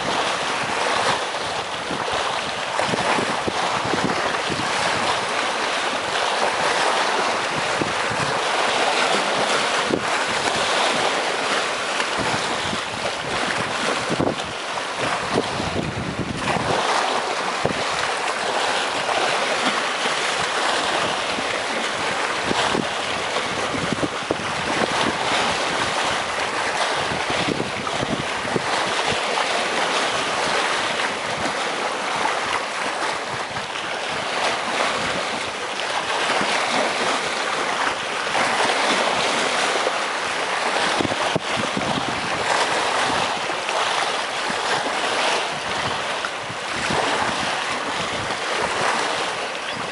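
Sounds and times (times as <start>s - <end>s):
waves splashing against rocks: 0.0s - 49.9s.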